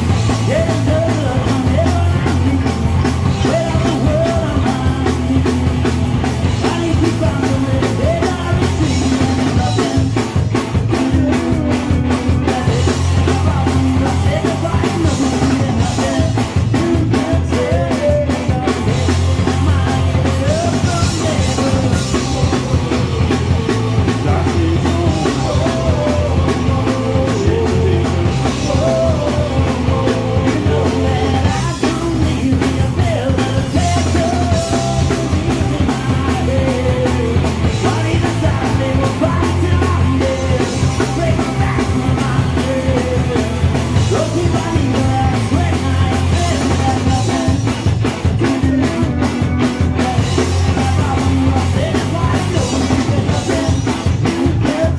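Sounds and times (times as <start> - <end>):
bass guitar: 0.0 - 54.9
distorted electric guitars: 0.0 - 54.9
drum kit: 0.0 - 54.9.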